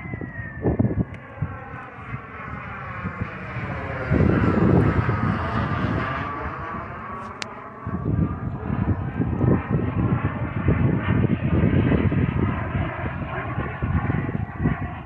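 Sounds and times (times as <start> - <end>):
model aircraft engine passing: 0.0 - 15.0
wind buffeting microphone: 0.0 - 15.0.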